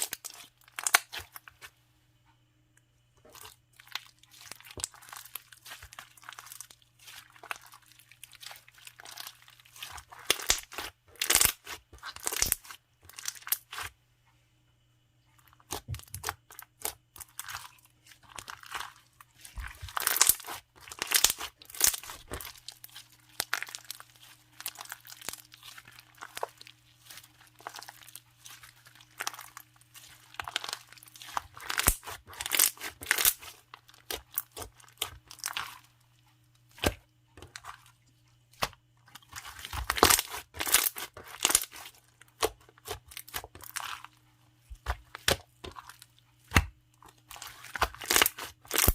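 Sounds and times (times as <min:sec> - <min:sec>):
slime crackling and popping: 0:00.0 - 0:01.6, 0:03.2 - 0:13.9, 0:15.6 - 0:35.9, 0:38.6 - 0:48.9.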